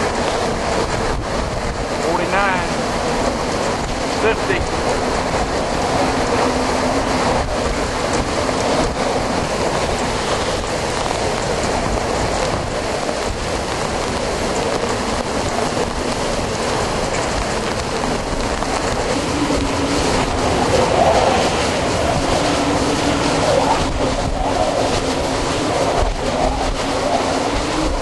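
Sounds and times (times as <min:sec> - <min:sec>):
wind and heavy rain: 0:00.0 - 0:28.0.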